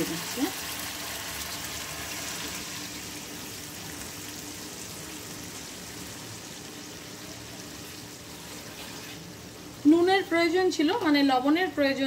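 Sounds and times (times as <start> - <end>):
curry hissing in pan: 0.0 - 10.6.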